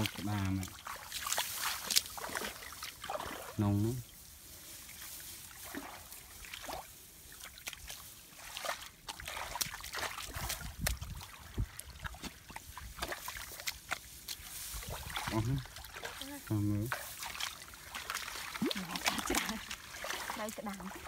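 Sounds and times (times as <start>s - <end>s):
digging in mud: 0.0s - 21.0s
water sloshing and splashing: 0.0s - 21.0s.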